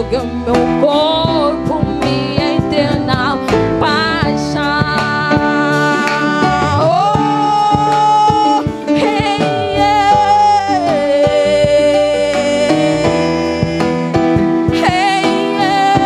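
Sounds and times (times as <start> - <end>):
live band music: 0.0 - 16.0
woman singing into microphone: 0.0 - 16.0.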